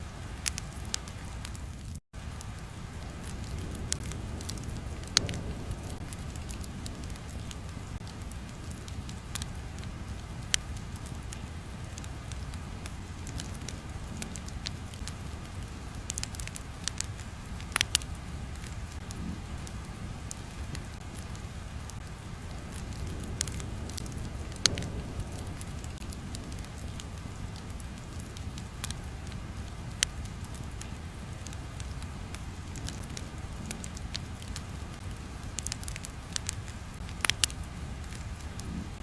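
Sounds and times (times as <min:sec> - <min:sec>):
sharp crackles and pops: 0:00.0 - 0:39.0
steady low rumble: 0:00.0 - 0:39.0.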